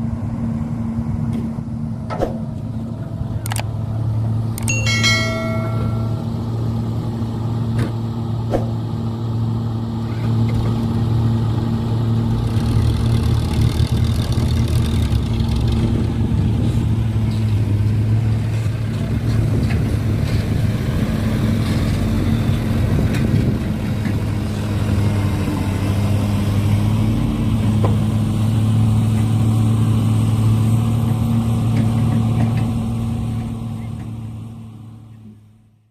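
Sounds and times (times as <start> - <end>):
model machinery engine drone: 0.0 - 35.7.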